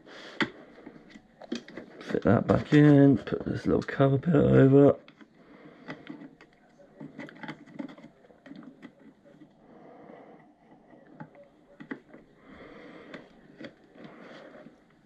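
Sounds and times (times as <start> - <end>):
plastic clicks and scrapes: 0.3 - 9.6, 10.4 - 15.0.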